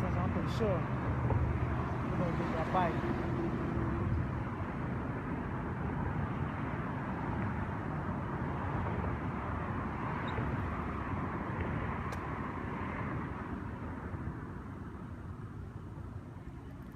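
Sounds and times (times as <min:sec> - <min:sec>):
steady outdoor rumble and hiss: 0:00.0 - 0:16.9.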